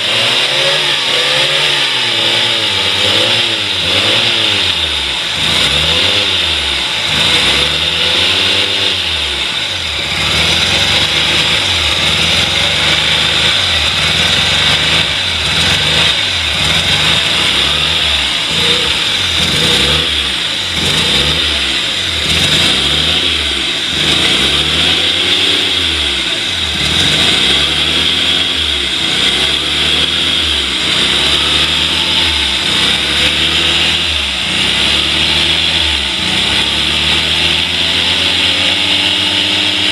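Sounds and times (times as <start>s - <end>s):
rotary engine revving: 0.0s - 39.9s.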